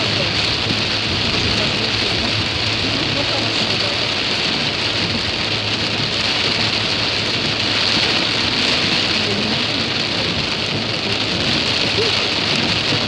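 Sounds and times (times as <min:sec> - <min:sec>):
heavy rain on a car: 0:00.0 - 0:13.0.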